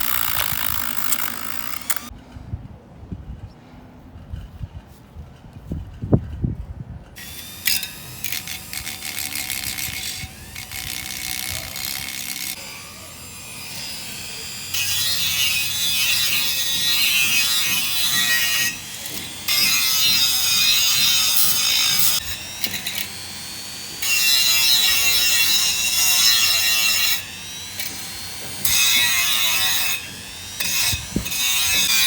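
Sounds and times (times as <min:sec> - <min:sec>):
handheld power tool: 0:00.0 - 0:02.1, 0:07.2 - 0:32.0.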